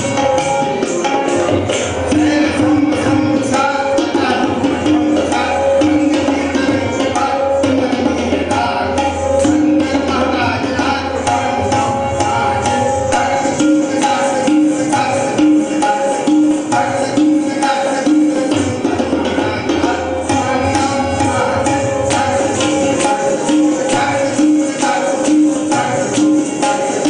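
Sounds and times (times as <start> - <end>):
tabla playing fast rhythm: 0.0 - 27.0.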